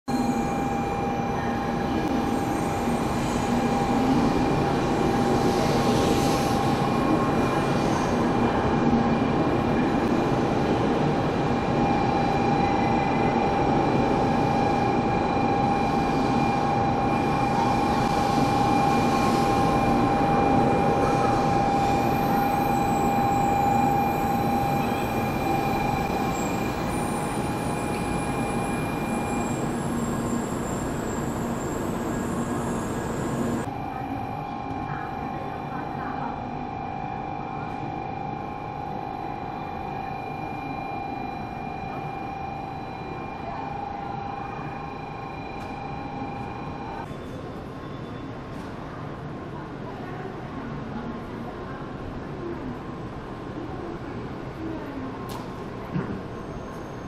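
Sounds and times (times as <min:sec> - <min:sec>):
high train whine: 0:00.1 - 0:57.0
train running noise: 0:00.1 - 0:57.0.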